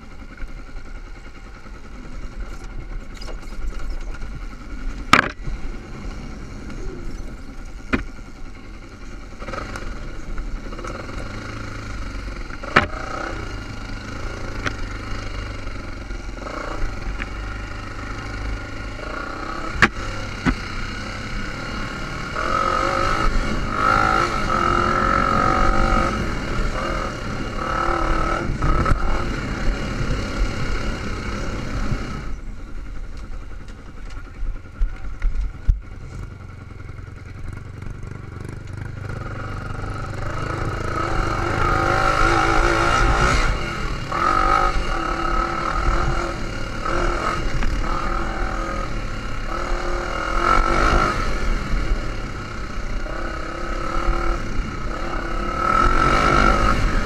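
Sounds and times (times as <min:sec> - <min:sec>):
dirt bike engine revving: 0:00.0 - 0:32.4, 0:34.7 - 0:57.0.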